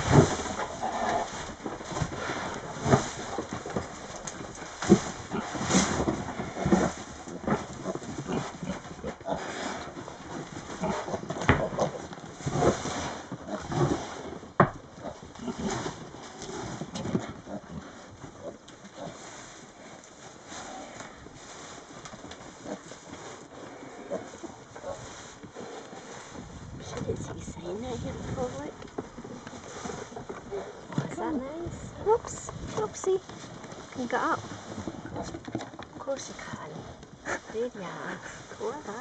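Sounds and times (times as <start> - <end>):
pig grunting and snuffling: 0.0 - 39.0
straw rustling: 0.0 - 39.0.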